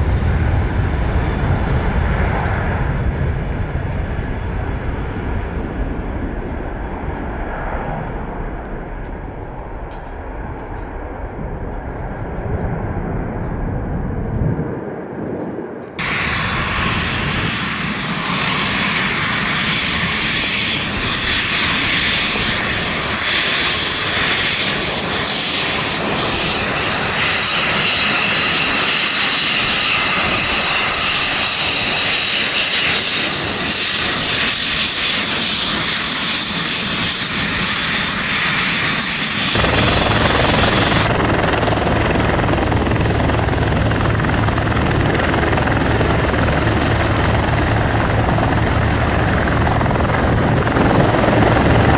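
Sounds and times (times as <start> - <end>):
helicopter rotor beat: 0.0 - 14.4, 15.9 - 51.9
helicopter turbine whine: 0.0 - 51.9
jet engine whining: 0.0 - 51.9.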